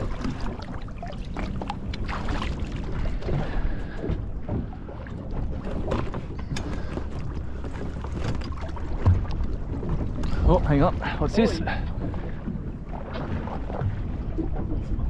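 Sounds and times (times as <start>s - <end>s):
water lapping against hull: 0.0s - 15.0s
wind rumbling on microphone: 0.0s - 15.0s.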